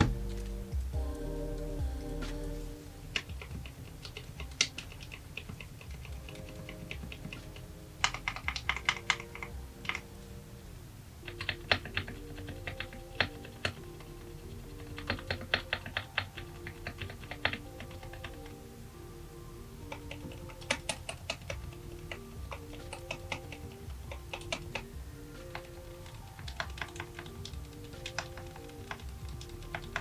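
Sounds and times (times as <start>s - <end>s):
mechanical keyboard typing: 3.1s - 10.0s, 11.3s - 18.6s, 19.8s - 30.0s.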